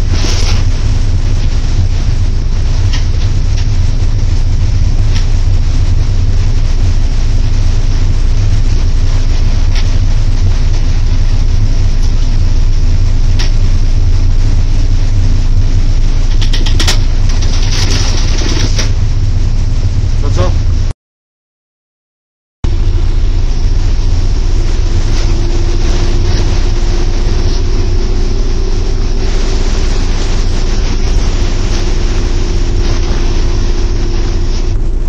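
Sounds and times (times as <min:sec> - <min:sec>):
locomotive low rumble: 0:00.0 - 0:20.9, 0:22.6 - 0:35.0.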